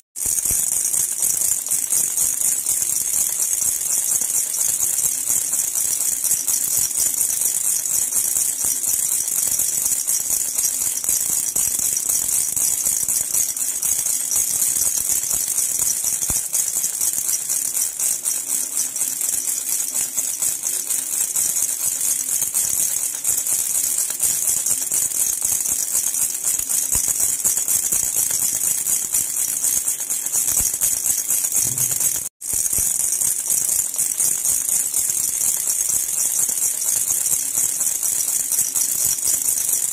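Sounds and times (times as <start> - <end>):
baby rattle jingling: 0.2 - 39.9.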